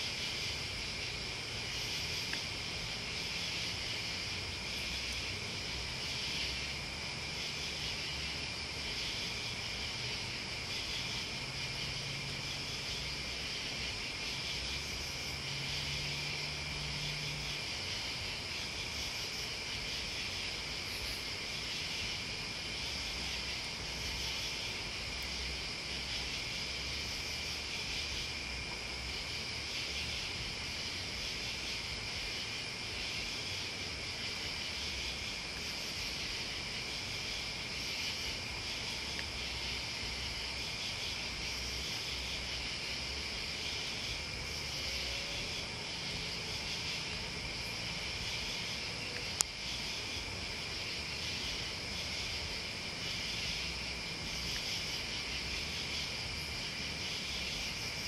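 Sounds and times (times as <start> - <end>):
crickets and insects chirring: 0.0 - 58.0.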